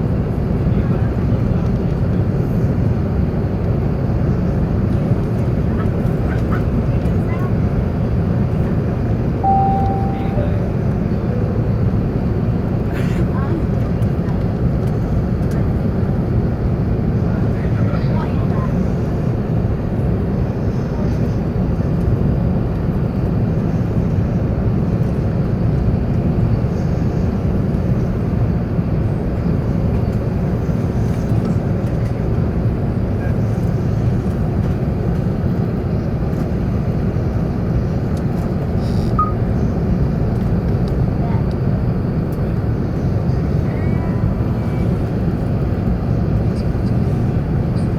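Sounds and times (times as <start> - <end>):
airliner engine rumble: 0.0 - 47.9.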